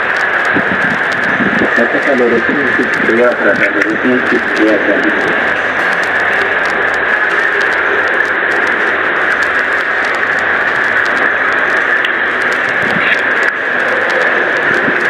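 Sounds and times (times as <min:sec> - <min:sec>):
static-like hiss: 0:00.0 - 0:15.0.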